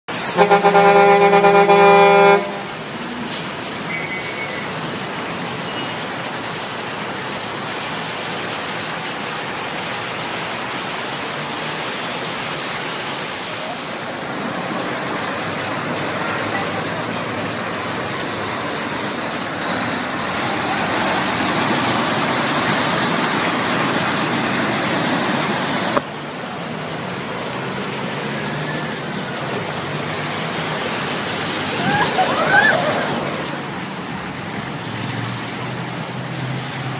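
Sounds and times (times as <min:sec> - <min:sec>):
traffic hiss on wet streets: 0:00.1 - 0:36.9
tyres churning through floodwater: 0:00.1 - 0:36.9
water rushing along road: 0:00.1 - 0:36.9.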